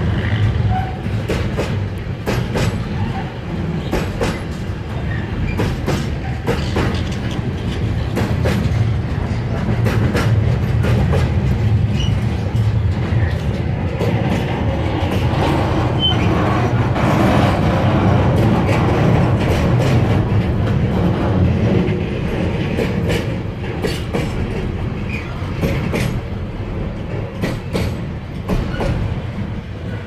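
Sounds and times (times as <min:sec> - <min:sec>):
freight train rumbling: 0:00.0 - 0:30.0
wheels clickety-clack on rail joints: 0:00.0 - 0:30.0.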